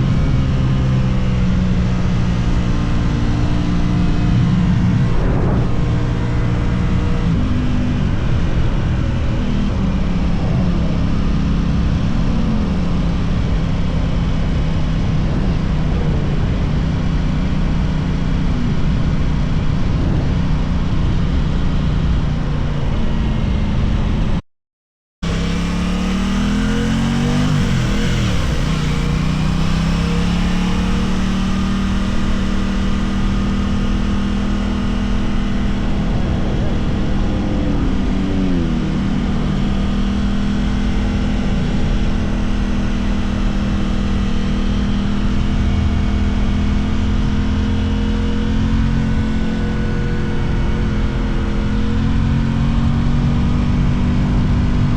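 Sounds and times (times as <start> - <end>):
motorcycle engine running: 0.0 - 24.4, 25.2 - 54.9
rush of noise: 0.0 - 24.4, 25.2 - 54.9.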